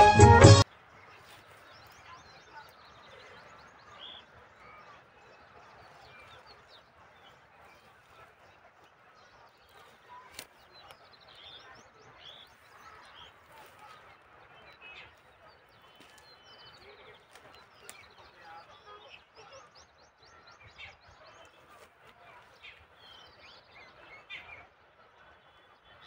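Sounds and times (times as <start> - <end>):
small birds chirping: 0.7 - 26.0.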